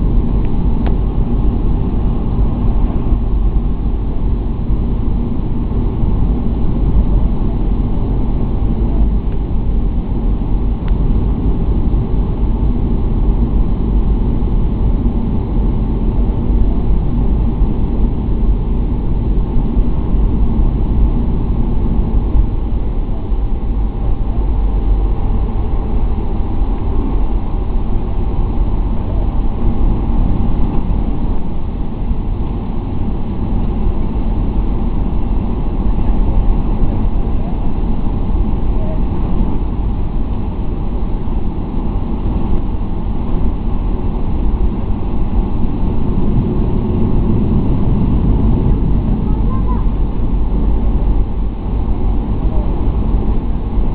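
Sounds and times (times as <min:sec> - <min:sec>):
faint jet whine: 0:00.0 - 0:53.9
jet engines rumbling: 0:00.0 - 0:53.9.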